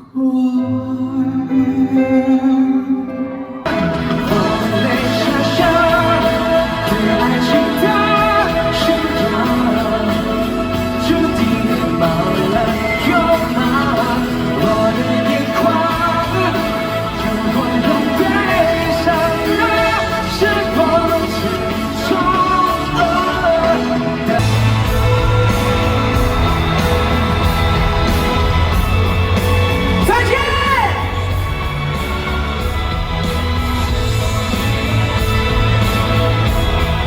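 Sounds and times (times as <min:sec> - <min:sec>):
person singing: 0:00.0 - 0:37.0
live pop-rock band playing: 0:01.2 - 0:37.0
heavy bass and drums: 0:03.7 - 0:37.0.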